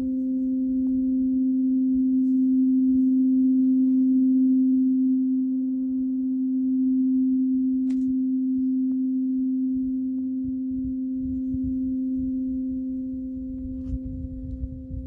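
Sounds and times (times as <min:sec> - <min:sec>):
tuning fork ringing: 0:00.0 - 0:15.0.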